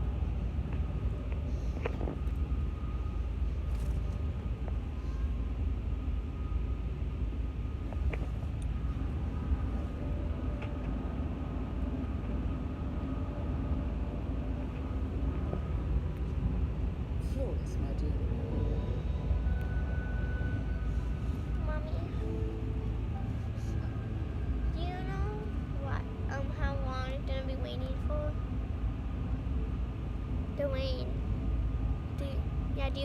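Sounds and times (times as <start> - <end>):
vehicle rumble in motion: 0.0 - 33.0.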